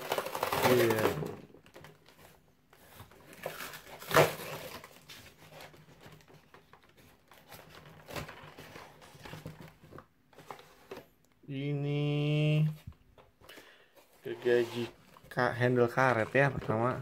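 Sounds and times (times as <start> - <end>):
cardboard rustling and scraping: 0.0 - 11.2, 14.0 - 17.0.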